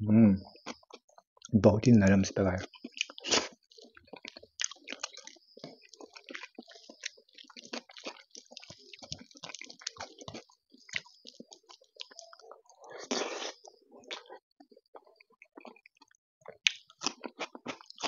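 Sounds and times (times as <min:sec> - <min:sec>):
eating sounds: 0:00.4 - 0:18.0
fingers squishing food: 0:02.6 - 0:18.0.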